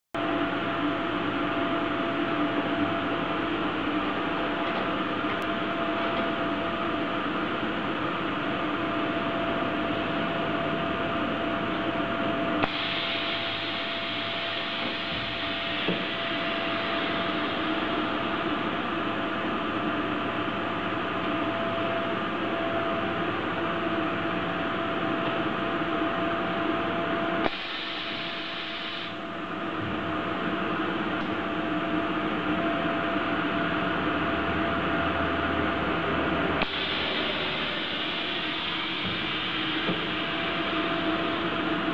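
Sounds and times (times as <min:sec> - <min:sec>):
factory machinery hum: 0:00.2 - 0:41.9.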